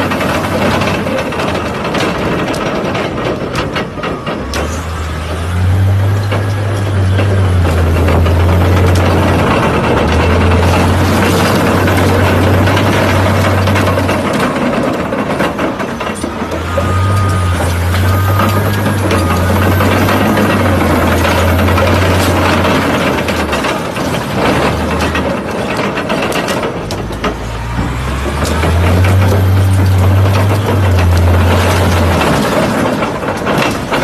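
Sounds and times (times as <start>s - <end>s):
bulldozer diesel engine droning: 0.0s - 34.0s
steel tracks rolling: 0.0s - 34.0s.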